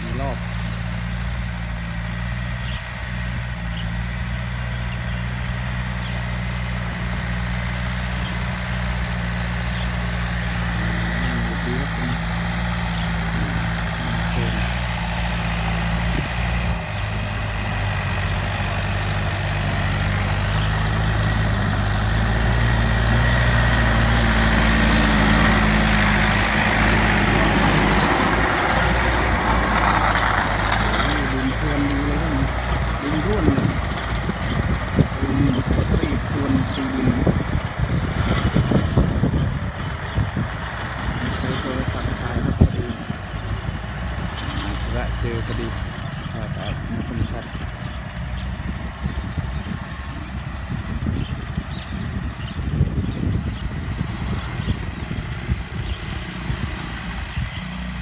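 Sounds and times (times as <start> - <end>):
tractor diesel engine: 0.0 - 58.0
rotary tiller churning soil: 6.0 - 58.0.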